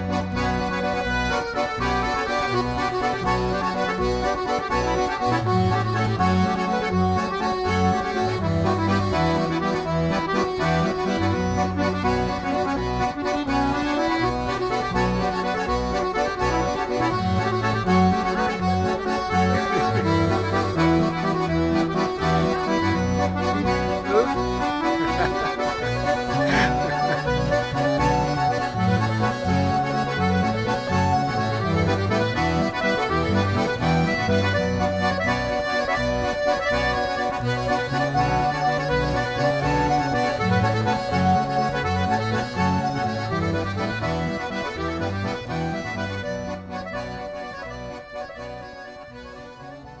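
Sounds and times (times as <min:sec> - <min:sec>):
accordion music: 0:00.0 - 0:50.0.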